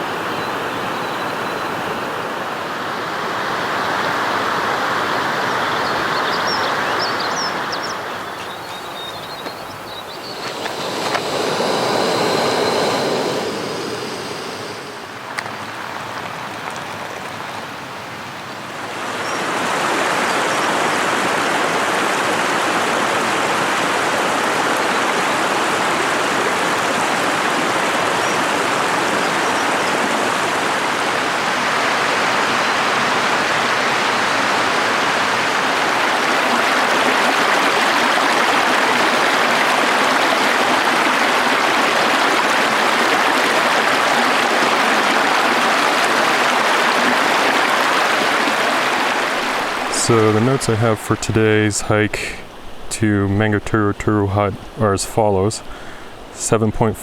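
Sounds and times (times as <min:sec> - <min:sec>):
rushing stream water: 0:00.0 - 0:57.0.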